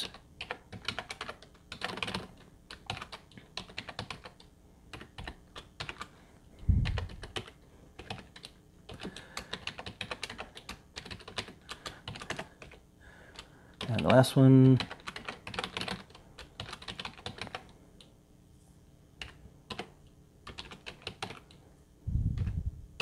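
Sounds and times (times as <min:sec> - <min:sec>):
keyboard typing clicks: 0:00.0 - 0:06.1, 0:06.8 - 0:18.1, 0:19.2 - 0:21.6.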